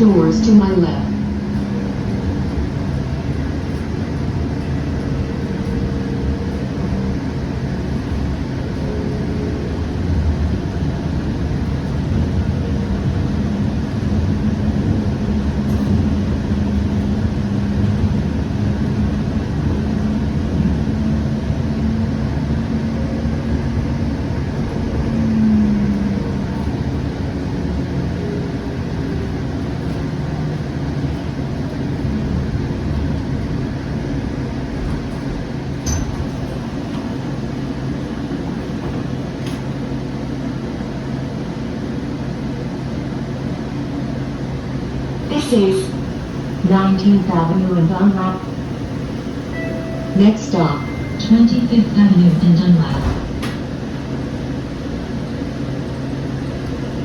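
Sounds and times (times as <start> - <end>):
light rail car electric hum: 0.0 - 57.0.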